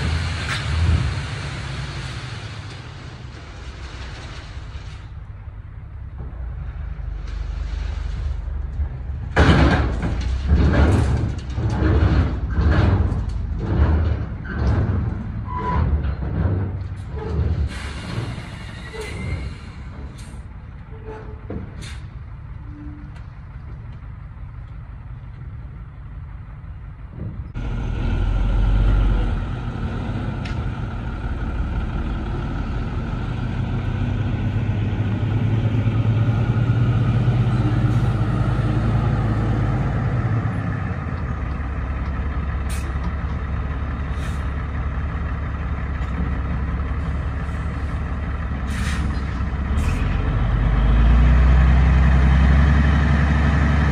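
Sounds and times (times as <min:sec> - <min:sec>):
heavy vehicle engine running: 0:00.0 - 0:53.9.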